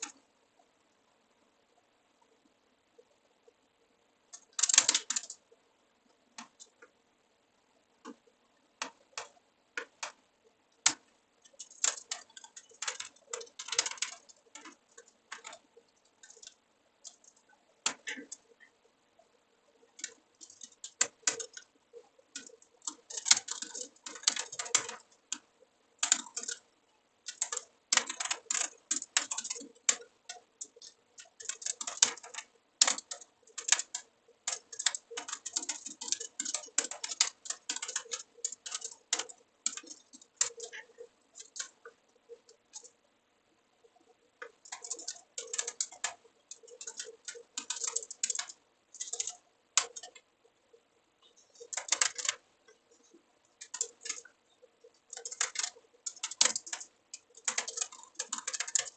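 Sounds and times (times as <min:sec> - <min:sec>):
typing on computer keyboard: 0:04.3 - 0:05.5, 0:08.0 - 0:43.0, 0:43.8 - 0:50.2, 0:51.3 - 0:58.9.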